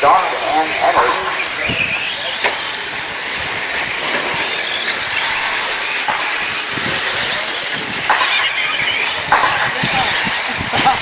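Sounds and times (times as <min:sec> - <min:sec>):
toy truck motors whining: 0:00.0 - 0:11.0
tyre noise: 0:00.9 - 0:11.0.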